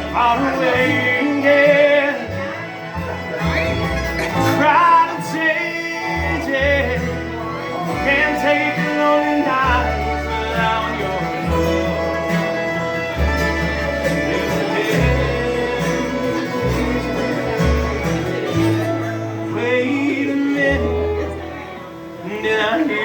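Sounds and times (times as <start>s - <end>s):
bass notes: 0.0s - 23.0s
bluegrass string band: 0.0s - 23.0s.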